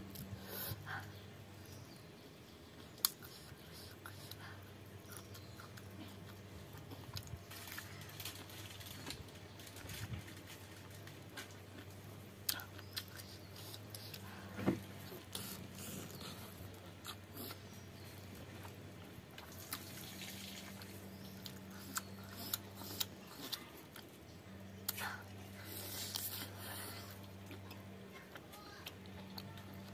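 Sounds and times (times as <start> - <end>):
low steady hum: 0.0 - 29.9
close chewing: 2.7 - 29.9.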